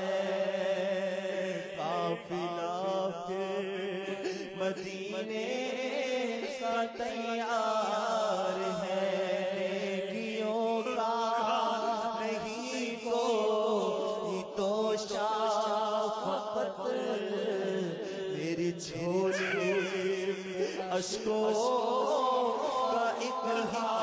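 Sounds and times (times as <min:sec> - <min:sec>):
voice chanting devotional song: 0:00.0 - 0:24.0.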